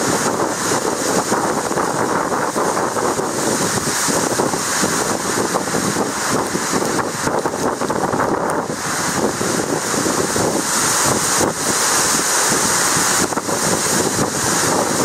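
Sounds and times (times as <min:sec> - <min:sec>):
heavy rain hiss: 0:00.0 - 0:15.0
storm wind blowing: 0:00.0 - 0:15.0
wind buffeting microphone: 0:00.0 - 0:15.0.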